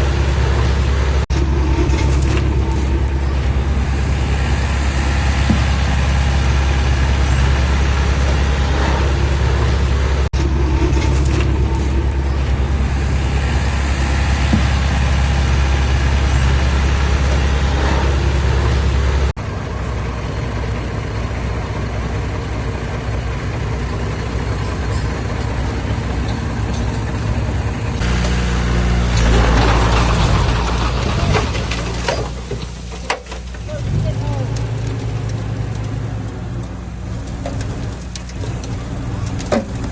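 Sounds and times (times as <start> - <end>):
diesel earthmoving engine droning: 0.0 - 39.9.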